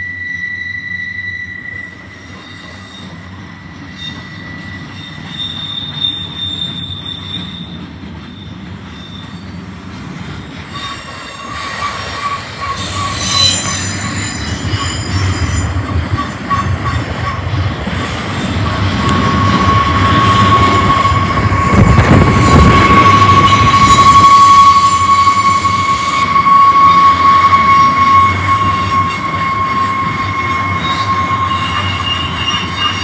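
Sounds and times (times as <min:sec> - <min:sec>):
high wheel squeal: 0:00.0 - 0:09.7, 0:10.6 - 0:17.6, 0:18.3 - 0:33.0
freight train cars rumbling: 0:00.0 - 0:33.0.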